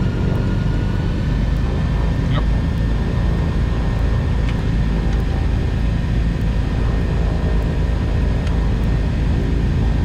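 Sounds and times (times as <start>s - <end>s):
piston engines and propellers droning: 0.0s - 10.0s.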